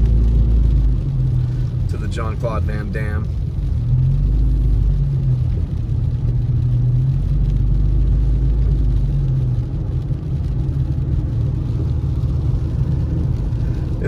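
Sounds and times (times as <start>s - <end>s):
engine and tyre rumble: 0.0s - 14.0s
faint engine hum: 0.0s - 14.0s.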